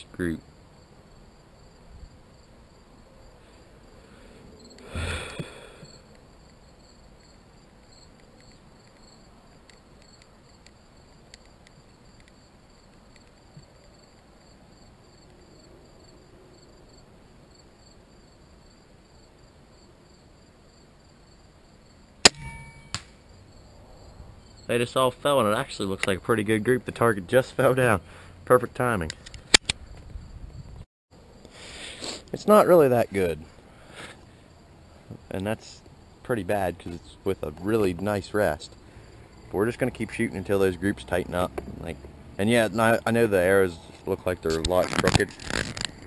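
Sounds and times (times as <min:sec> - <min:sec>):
crickets chirring: 0:00.0 - 0:46.0.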